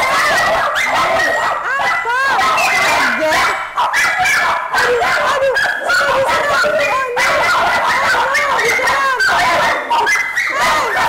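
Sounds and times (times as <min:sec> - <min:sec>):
dogs barking and yapping: 0:00.0 - 0:11.0.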